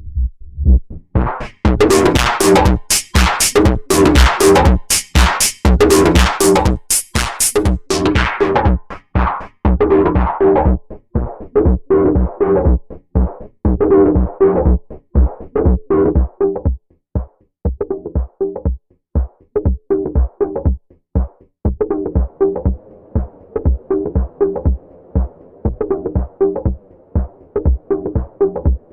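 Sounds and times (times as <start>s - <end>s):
synth bass notes: 0.0s - 16.6s, 21.8s - 28.9s
drum machine loop: 1.2s - 28.9s.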